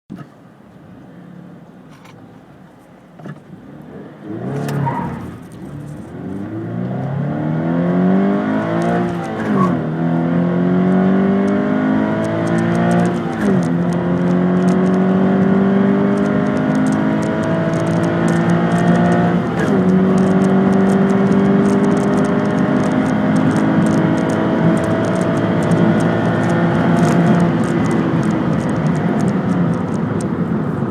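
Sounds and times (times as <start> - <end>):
car engine accelerating hard: 3.2 - 30.9.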